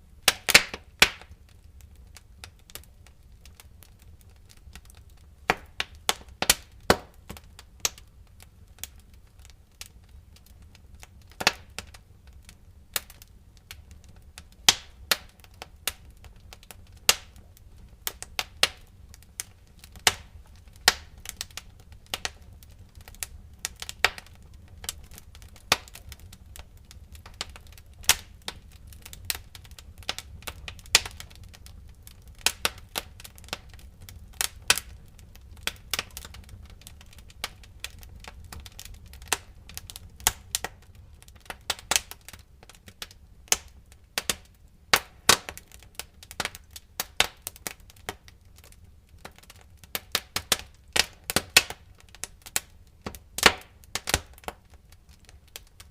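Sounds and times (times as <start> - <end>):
low rumble of flames: 0.0 - 55.9
wood fire pops and snaps: 0.2 - 55.9.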